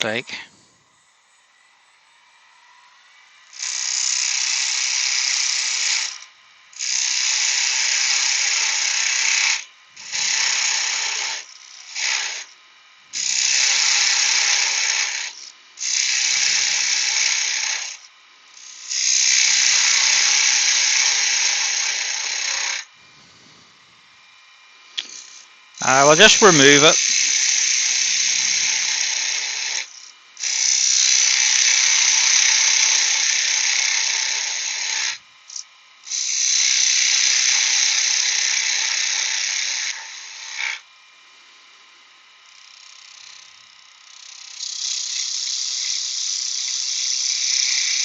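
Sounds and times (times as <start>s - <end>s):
lathe tool scraping wood: 3.6s - 23.6s, 24.2s - 40.9s, 44.1s - 48.0s.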